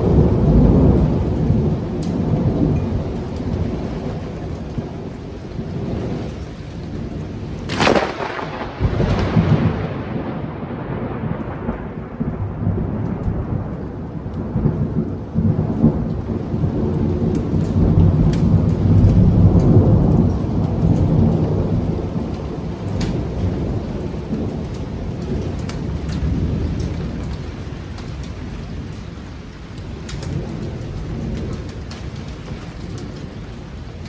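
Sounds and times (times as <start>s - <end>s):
low thunder rumble: 0.0s - 34.0s
steady rain: 0.0s - 34.0s
thunderclap: 0.0s - 34.0s.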